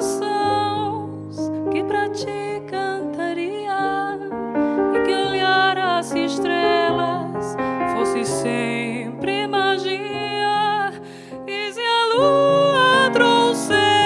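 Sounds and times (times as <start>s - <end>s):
piano accompaniment: 0.0s - 14.0s
woman singing with vibrato: 1.8s - 4.3s, 5.0s - 14.0s.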